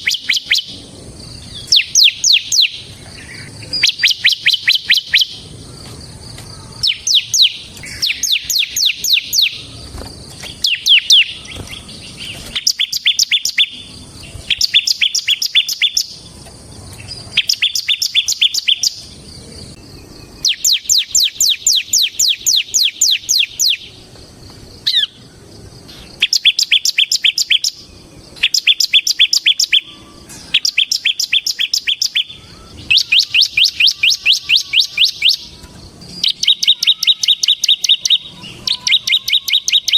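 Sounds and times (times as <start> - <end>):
bird singing in rapid trills: 0.0 - 24.1, 24.7 - 39.9.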